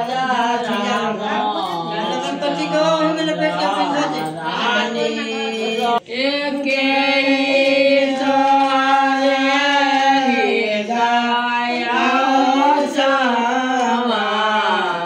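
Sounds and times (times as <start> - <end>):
women singing folk song: 0.0 - 15.0.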